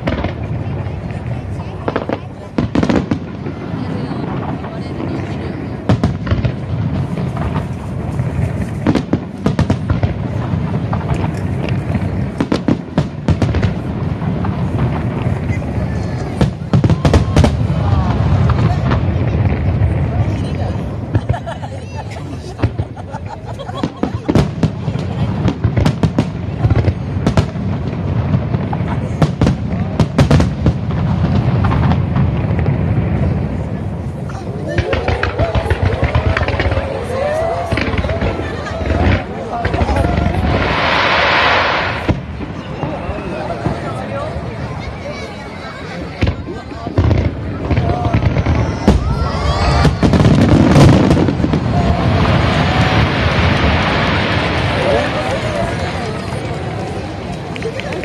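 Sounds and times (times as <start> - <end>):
fireworks bursting in volleys: 0.0 - 58.0
low rumble of fireworks: 0.0 - 58.0.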